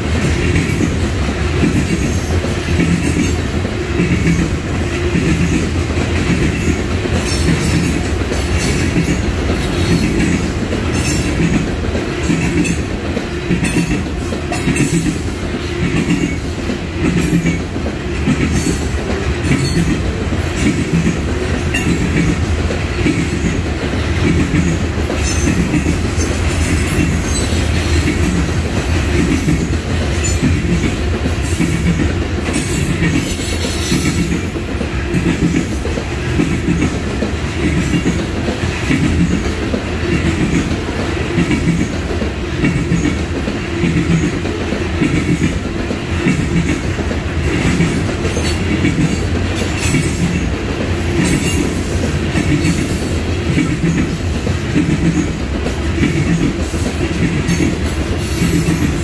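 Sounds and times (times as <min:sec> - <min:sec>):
rumbling rail noise: 0:00.0 - 0:59.0
wheels clicking over rail joints: 0:00.1 - 0:59.0.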